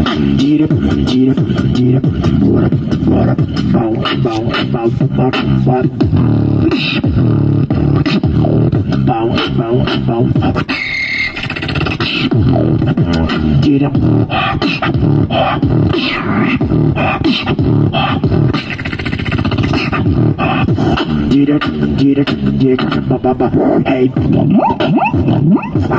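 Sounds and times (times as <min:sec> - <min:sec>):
beatboxing into a microphone: 0:00.0 - 0:25.9.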